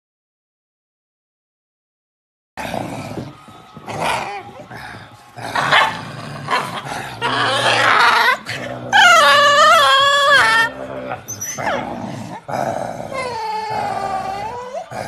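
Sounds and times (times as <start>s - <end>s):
small dog play-growling: 2.6s - 15.0s.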